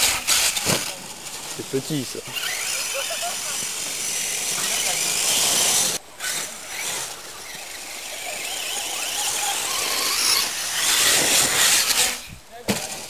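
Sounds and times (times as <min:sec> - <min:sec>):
toy truck motor whining: 0:00.0 - 0:12.3.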